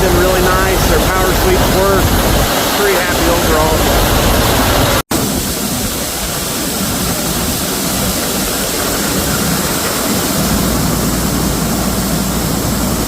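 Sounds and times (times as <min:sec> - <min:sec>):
grain auger rushing hum: 0:00.0 - 0:13.0.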